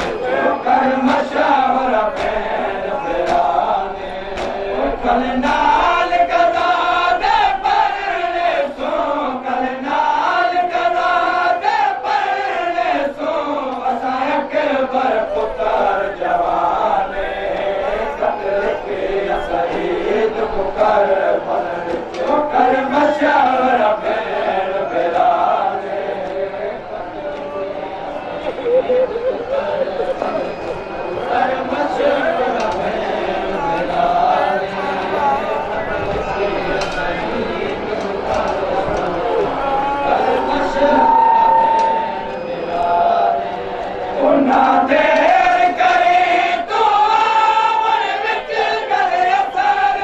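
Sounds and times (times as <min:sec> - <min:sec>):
men chanting in chorus: 0:00.0 - 0:50.0.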